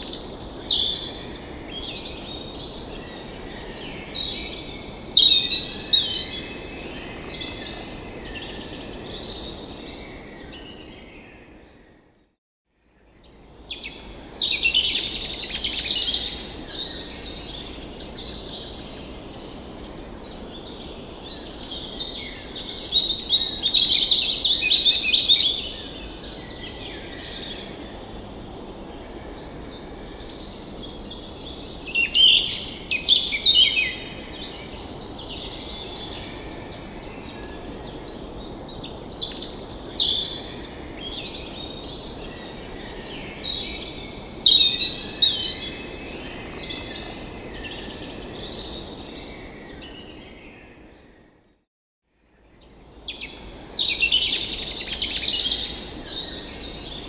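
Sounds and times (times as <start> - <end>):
songbirds singing: 0.0 - 12.1, 13.0 - 51.5, 52.3 - 57.0.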